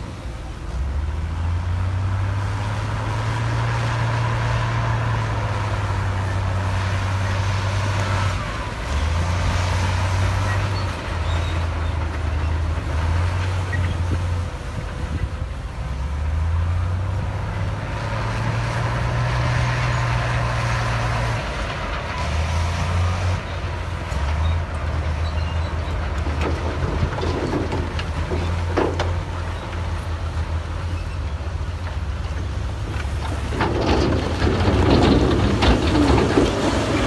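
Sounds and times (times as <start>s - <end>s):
heavy diesel engine droning: 0.0s - 37.0s
mechanical clatter and rumble: 2.9s - 37.0s.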